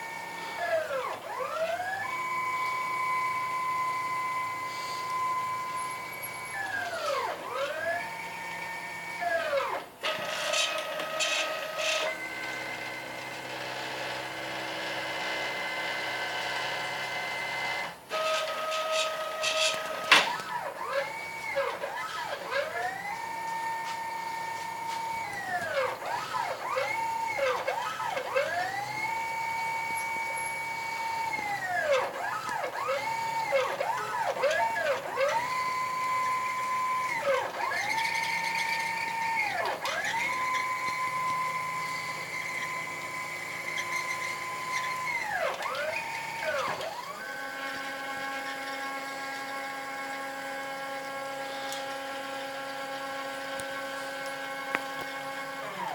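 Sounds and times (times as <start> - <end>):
cnc router motors whining: 0.0 - 55.9.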